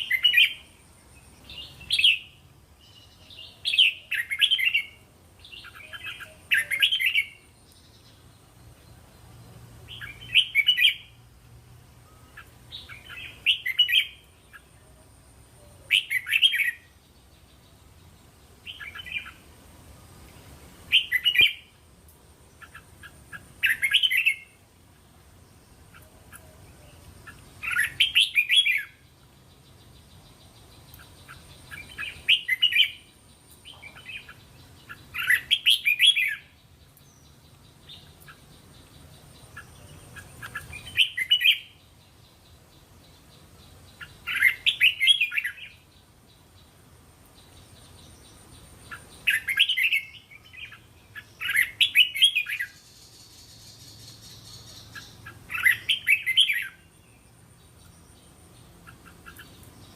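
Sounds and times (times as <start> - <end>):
bird singing warbled phrases: 0.0 - 59.9.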